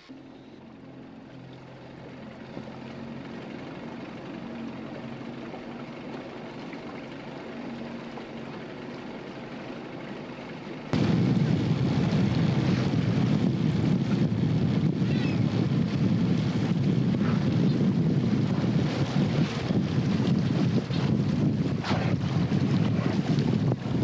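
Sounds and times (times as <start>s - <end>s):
boat engine humming: 0.0s - 24.0s
rush of wind and water: 1.4s - 24.0s.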